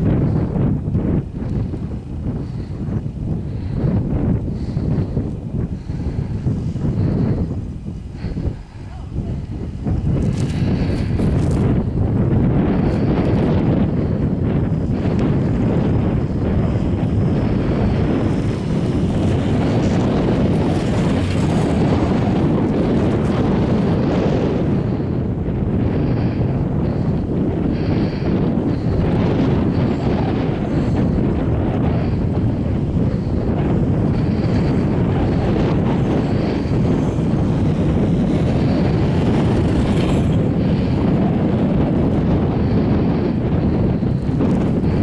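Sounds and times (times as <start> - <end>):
chairlift rope rumbling over wheels: 0.0 - 45.0
wind buffeting microphone: 0.0 - 45.0.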